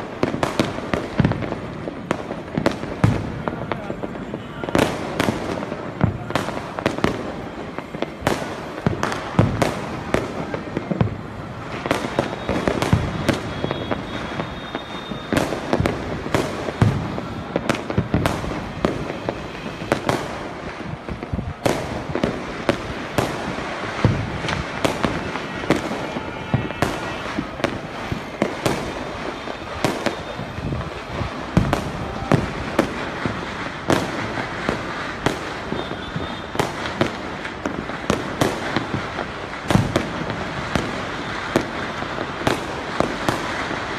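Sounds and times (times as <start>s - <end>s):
firecrackers and fireworks banging: 0.0s - 43.9s.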